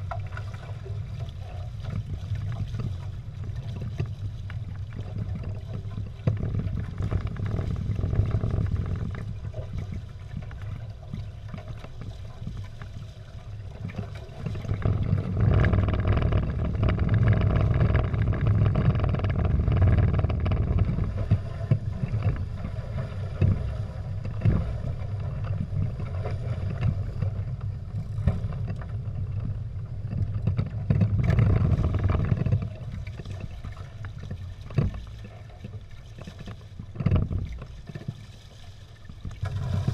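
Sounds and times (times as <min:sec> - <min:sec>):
wind rumbling on microphone: 0:00.0 - 0:38.3, 0:39.0 - 0:39.9
water rushing along boat hulls: 0:00.0 - 0:39.9.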